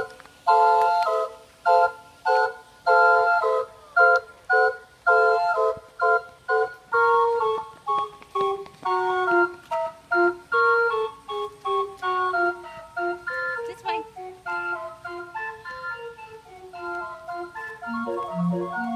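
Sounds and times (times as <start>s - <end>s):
calliope playing chorded notes: 0.0s - 18.9s.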